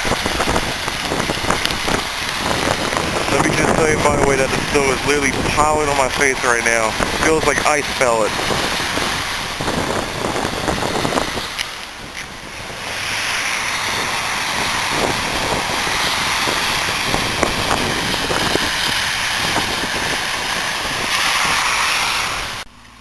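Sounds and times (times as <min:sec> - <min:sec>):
wind rushing over microphone: 0:00.0 - 0:22.7.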